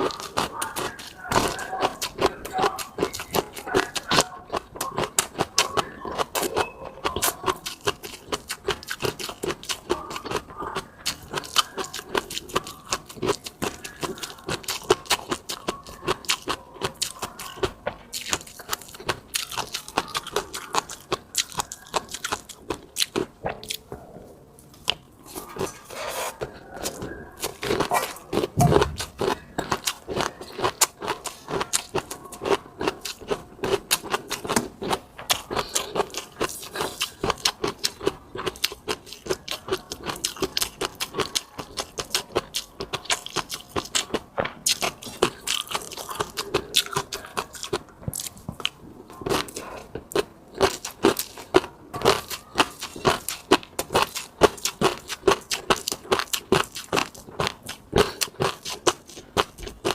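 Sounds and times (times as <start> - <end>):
person chewing and crunching: 0.0 - 59.9.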